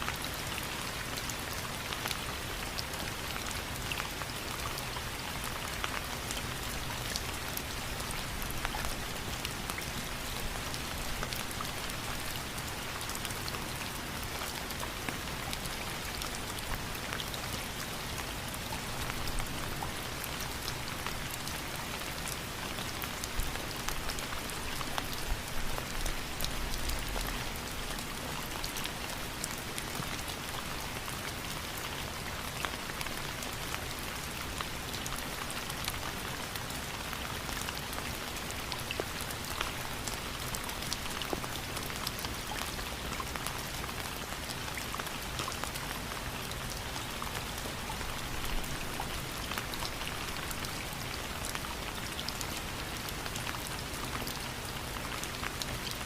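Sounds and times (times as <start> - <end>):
rain falling on a surface: 0.0 - 56.0.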